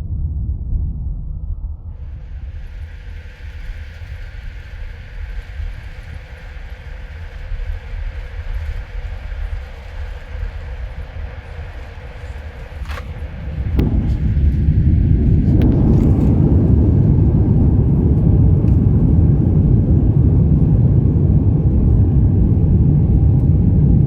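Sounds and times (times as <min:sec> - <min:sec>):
airplane cabin engine rumble: 0:00.0 - 0:24.0
rushing air: 0:01.9 - 0:24.0.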